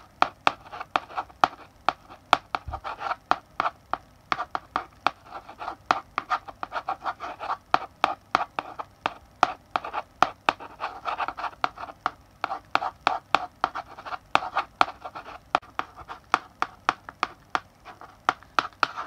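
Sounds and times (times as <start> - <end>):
chalk writing on a blackboard: 0.2 - 19.0.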